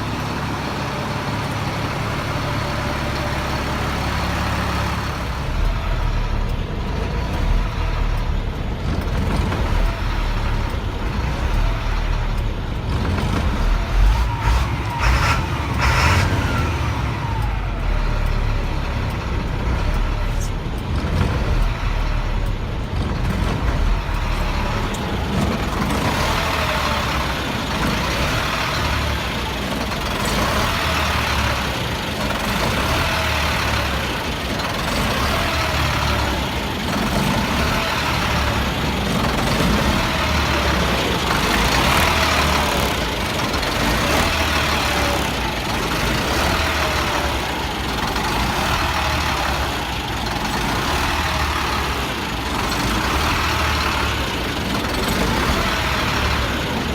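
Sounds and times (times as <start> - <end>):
diesel truck engine surging: 0.0 - 56.9.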